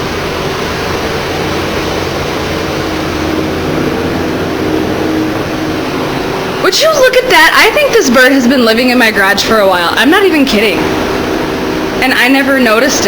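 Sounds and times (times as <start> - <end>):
mechanical drone with hum: 0.0 - 13.0.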